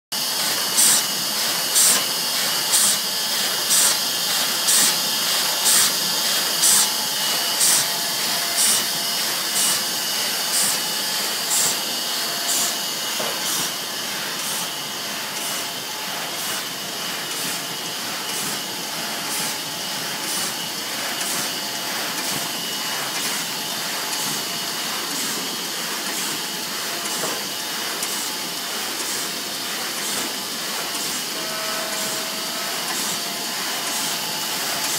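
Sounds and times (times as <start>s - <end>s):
steady hiss of air: 0.2s - 34.9s.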